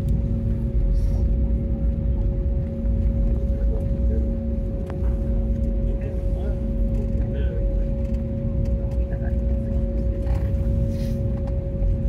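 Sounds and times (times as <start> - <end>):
jet engine and runway rumble: 0.0 - 12.0
steady cabin hum: 0.0 - 12.0.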